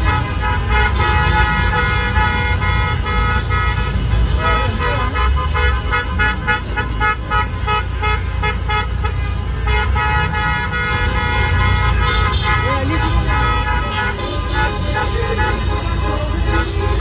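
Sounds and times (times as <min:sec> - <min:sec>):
car horns honking: 0:00.0 - 0:17.0
traffic rumble: 0:00.0 - 0:17.0.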